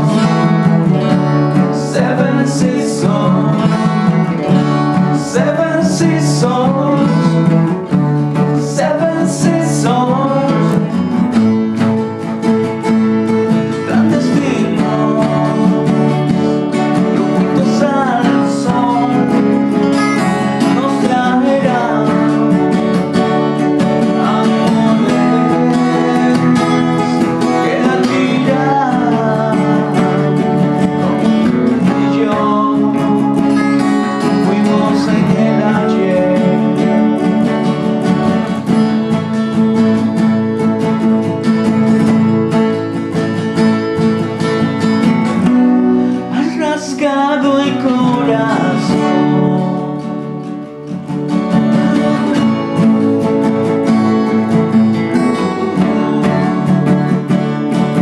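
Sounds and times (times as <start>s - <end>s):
man singing: 0.0s - 11.4s, 13.4s - 39.4s, 45.5s - 50.9s, 51.8s - 58.0s
strummed acoustic guitar: 0.0s - 58.0s.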